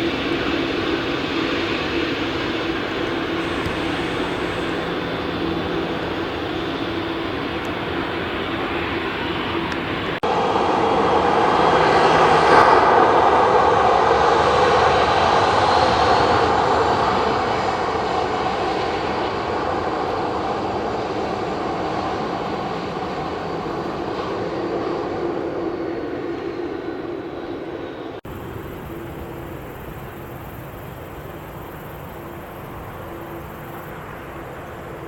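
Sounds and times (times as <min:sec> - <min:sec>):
jet engines roaring past: 0:00.0 - 0:35.0.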